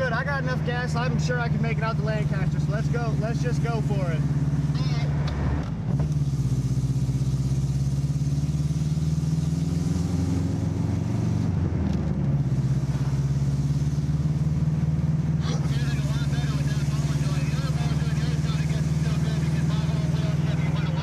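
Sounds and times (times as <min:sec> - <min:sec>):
car engine drone: 0:00.0 - 0:21.0
road noise inside car: 0:00.0 - 0:21.0.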